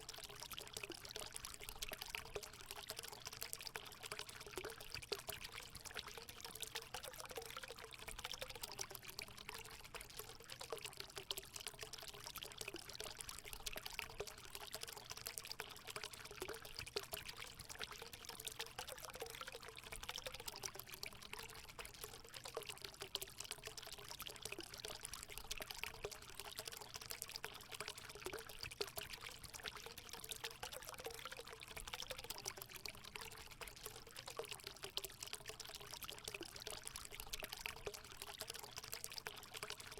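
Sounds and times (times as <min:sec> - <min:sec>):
water pouring into pool: 0:00.0 - 0:39.9.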